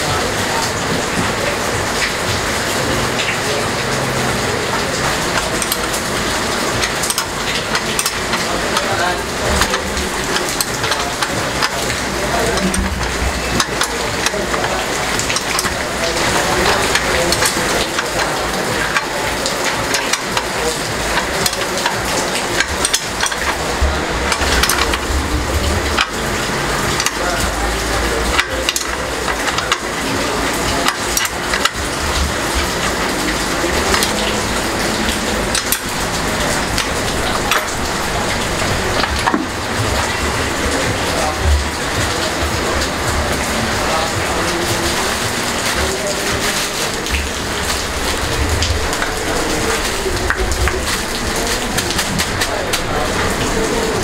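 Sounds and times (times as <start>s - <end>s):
crackling sizzling noise: 0.0s - 54.0s.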